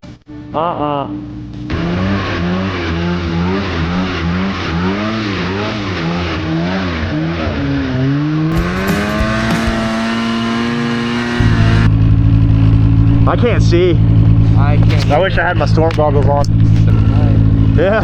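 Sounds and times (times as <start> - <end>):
snowmobile engine revving: 1.7 - 18.0.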